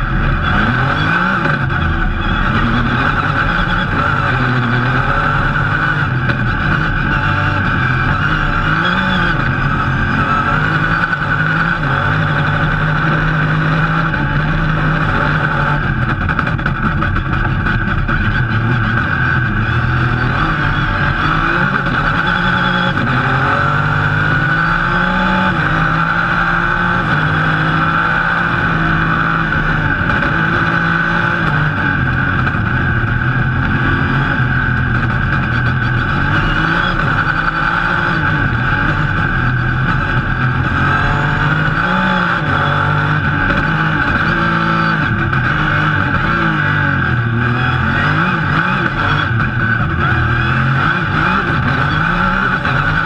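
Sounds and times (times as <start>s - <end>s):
rally car engine revving: 0.0s - 53.0s
road and cabin noise: 0.0s - 53.0s.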